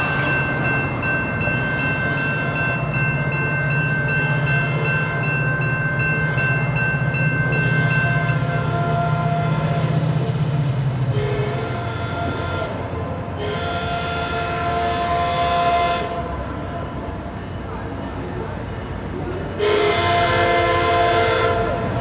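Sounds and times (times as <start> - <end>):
diesel train rumble: 0.0 - 22.0
railroad crossing bell: 0.0 - 22.0.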